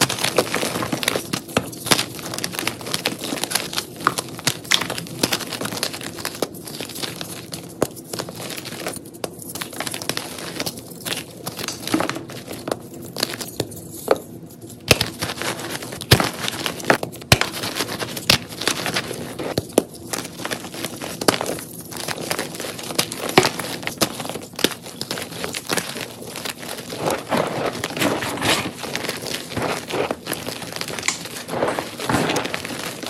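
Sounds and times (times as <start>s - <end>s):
chalk crushed by hand crackling: 0.0s - 33.0s.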